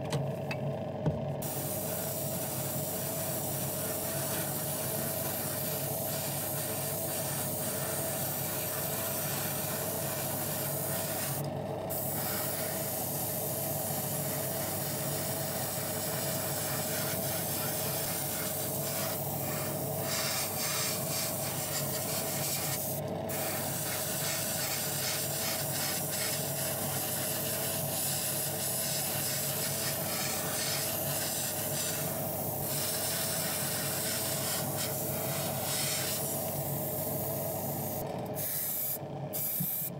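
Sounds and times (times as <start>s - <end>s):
airbrush spraying hiss: 1.4s - 39.9s.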